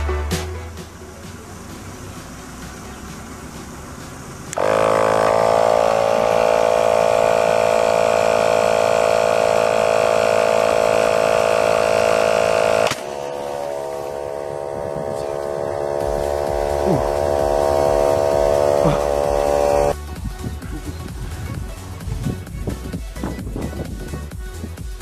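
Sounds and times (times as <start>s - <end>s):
electric air pump buzzing: 0.7s - 25.0s.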